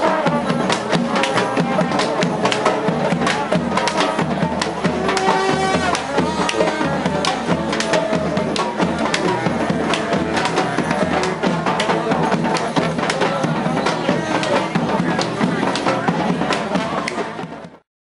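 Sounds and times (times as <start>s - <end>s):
held horn notes: 0.0s - 17.2s
busy drumming: 0.0s - 17.8s.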